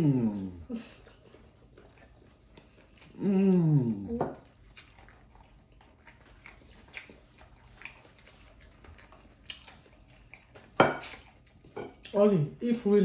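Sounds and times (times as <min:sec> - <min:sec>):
person chewing: 0:00.0 - 0:12.3.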